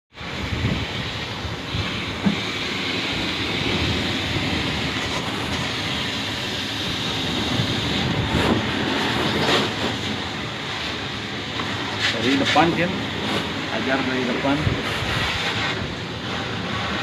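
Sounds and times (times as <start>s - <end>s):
machine hissing and rumbling: 0.1s - 17.0s.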